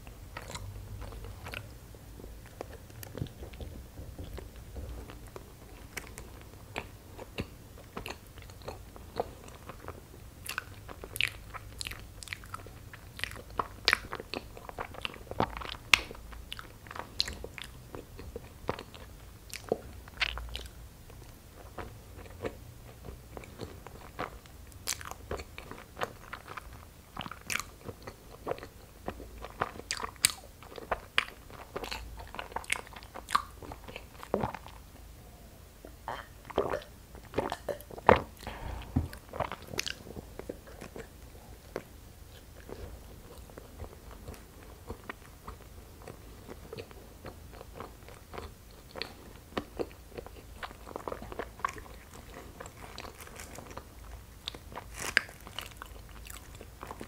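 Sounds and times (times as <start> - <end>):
chewing rice cakes: 0.3 - 35.0, 35.8 - 57.0.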